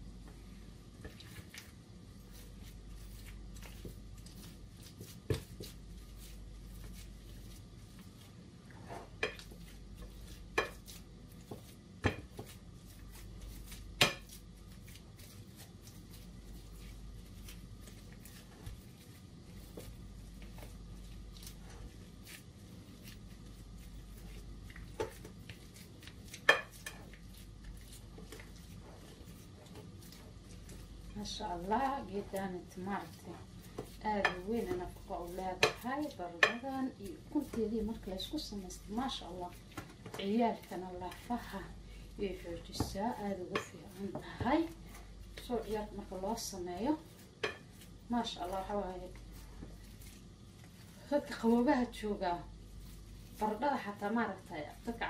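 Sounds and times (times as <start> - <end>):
potatoes squishing: 1.0 - 55.0.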